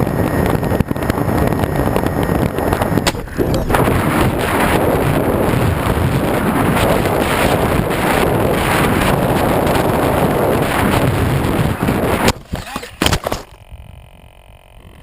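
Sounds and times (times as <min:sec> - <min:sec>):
loud wind rush on microphone: 0:00.0 - 0:15.0.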